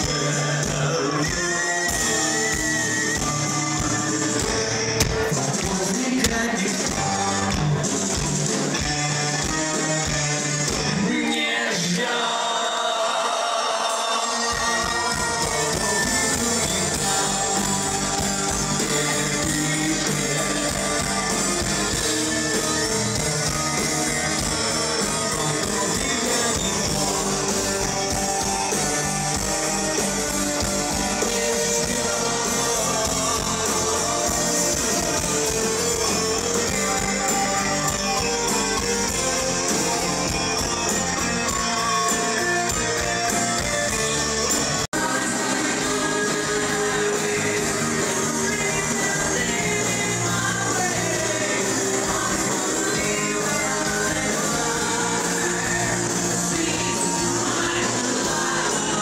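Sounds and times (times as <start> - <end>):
rock music with guitar and singing: 0.0 - 59.0.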